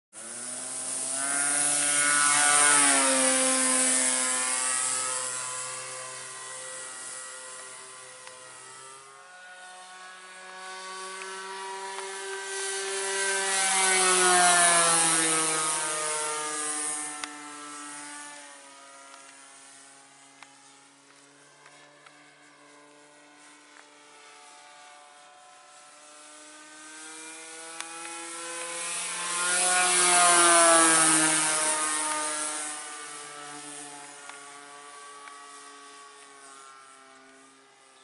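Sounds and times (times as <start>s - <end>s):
model plane engine passing: 0.2s - 38.0s.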